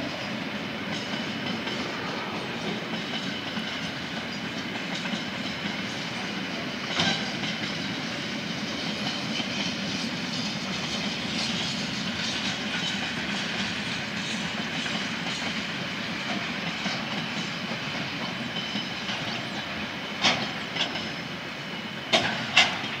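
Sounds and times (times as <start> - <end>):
freight train wheels rattling: 0.0 - 23.0.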